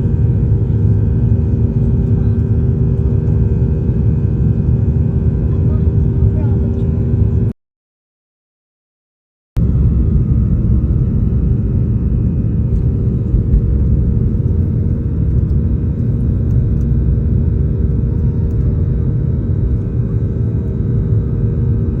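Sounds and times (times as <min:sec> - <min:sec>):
jet engines rumbling during takeoff: 0:00.0 - 0:07.5, 0:09.6 - 0:22.0.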